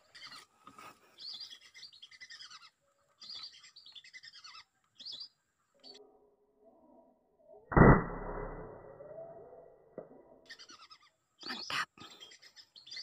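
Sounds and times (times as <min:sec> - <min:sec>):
faint birds chirping: 0:00.0 - 0:07.7, 0:09.0 - 0:13.0.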